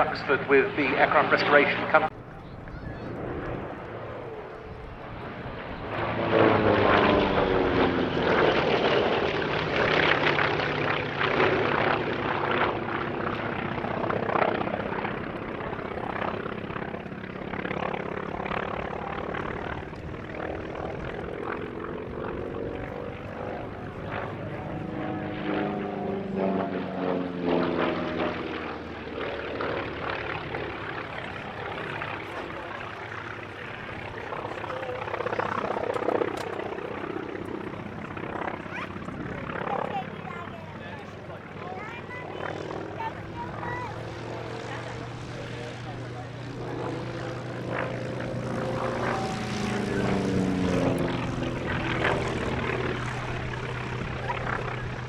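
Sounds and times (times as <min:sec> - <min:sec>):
piston aircraft engine passing: 0:00.0 - 0:55.0.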